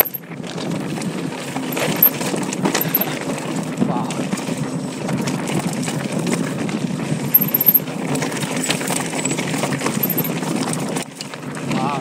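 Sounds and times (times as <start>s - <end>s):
bike clicking and rattling: 0.0s - 11.8s
bike tyres rumbling on dirt: 0.0s - 12.0s.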